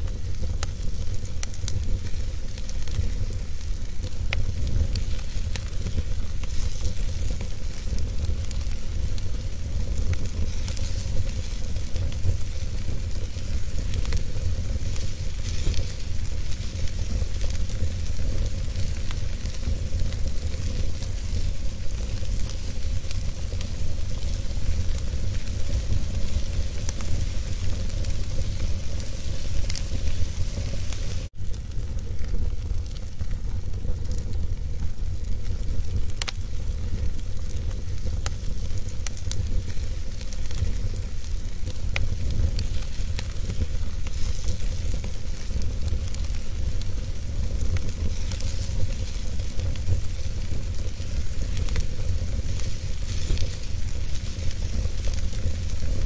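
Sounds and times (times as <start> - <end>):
fire rumbling and hissing: 0.0 - 56.0
logs crackling and popping: 0.0 - 56.0.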